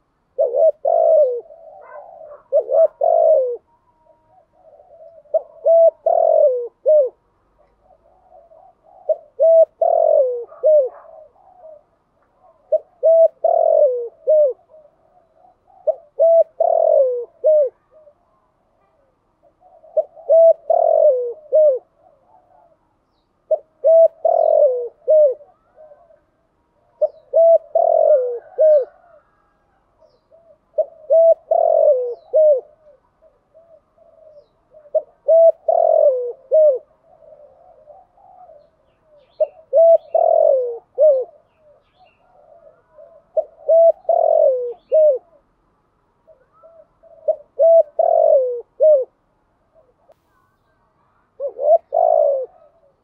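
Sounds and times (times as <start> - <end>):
dove cooing: 0.0 - 45.6, 46.2 - 53.0.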